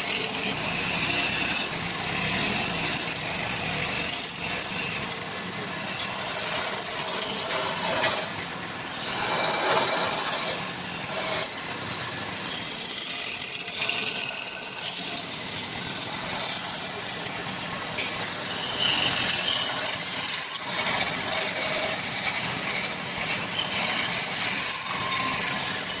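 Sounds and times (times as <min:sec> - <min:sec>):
turning tool cutting wood: 0:00.0 - 0:11.7, 0:12.4 - 0:17.4, 0:18.0 - 0:26.0
lathe motor hum: 0:00.0 - 0:26.0.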